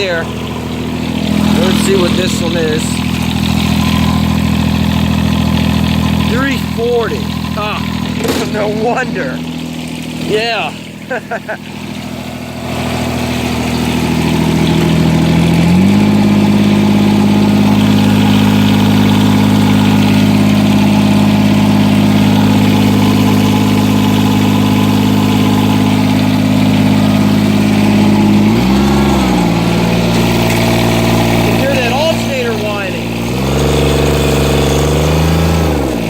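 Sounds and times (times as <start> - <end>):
diesel engine warming up: 0.0 - 36.0.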